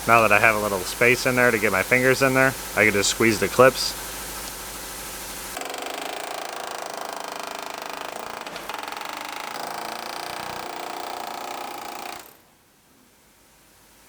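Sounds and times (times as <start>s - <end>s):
power tool chattering: 0.0s - 12.4s.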